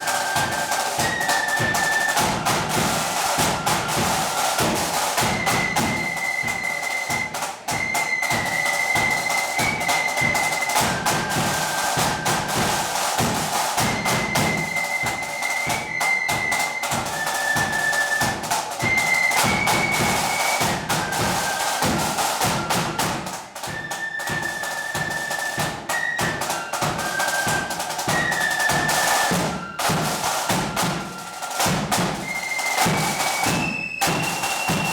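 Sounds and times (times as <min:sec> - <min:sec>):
marching band melody: 0:00.0 - 0:34.9
snare and bass drumming: 0:00.0 - 0:34.9.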